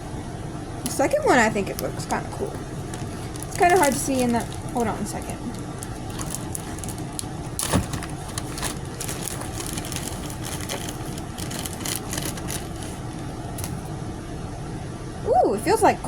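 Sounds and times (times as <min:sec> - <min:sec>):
objects clicking and rustling: 0:00.9 - 0:13.9.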